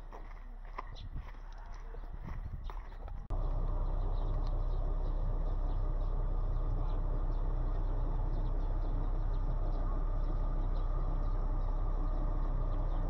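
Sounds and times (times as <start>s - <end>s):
low outdoor noise: 0.0s - 13.0s.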